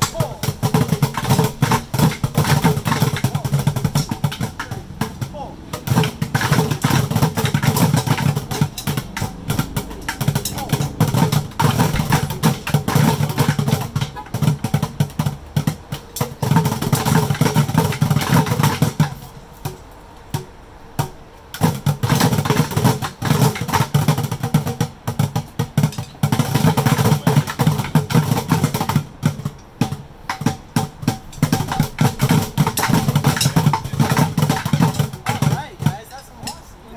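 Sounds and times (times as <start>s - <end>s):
drumsticks beating plastic buckets: 0.0s - 36.9s.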